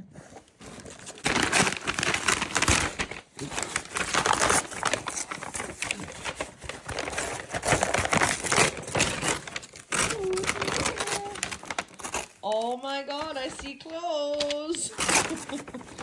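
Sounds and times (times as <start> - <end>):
packaging crinkling: 0.4 - 16.0.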